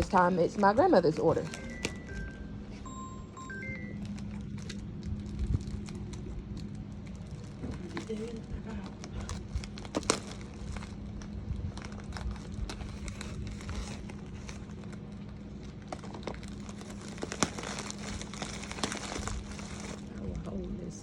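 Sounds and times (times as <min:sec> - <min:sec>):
packaging crinkling and rustling: 0:00.0 - 0:02.4, 0:03.7 - 0:20.8
steady low hum: 0:00.0 - 0:21.0.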